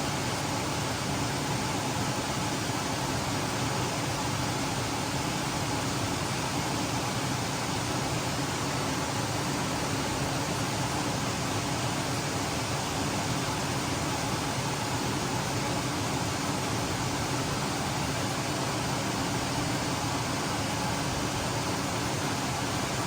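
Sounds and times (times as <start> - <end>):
fan-like hiss: 0.0 - 23.0.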